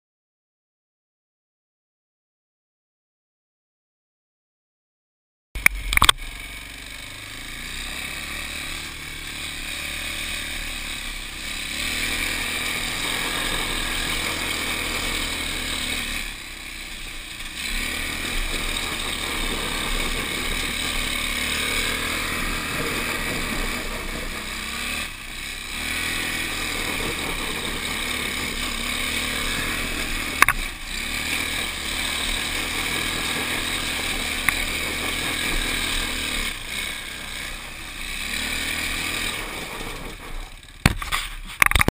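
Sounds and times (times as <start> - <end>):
go-kart engine running hard: 5.6 - 41.9
kart drifting on gravel: 5.6 - 41.9.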